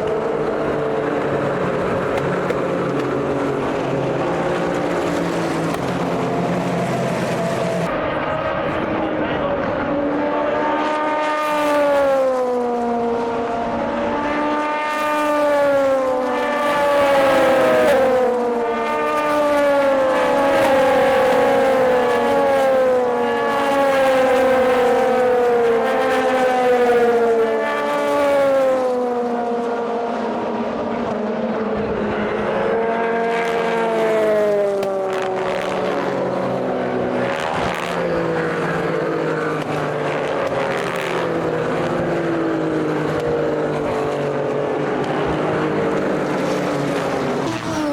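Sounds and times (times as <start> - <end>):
racing cars passing at speed: 0.0 - 47.9.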